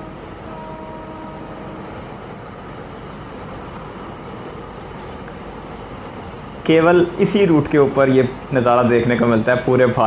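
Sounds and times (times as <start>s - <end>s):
steady pitched hum: 0.0s - 10.0s.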